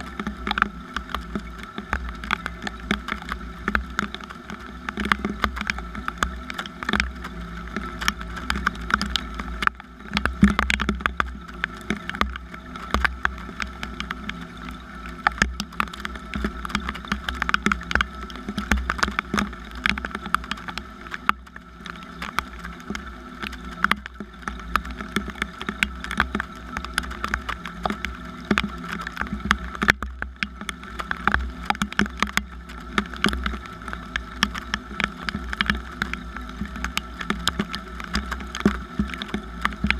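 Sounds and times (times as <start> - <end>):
raindrop impacts: 0.0 - 39.9.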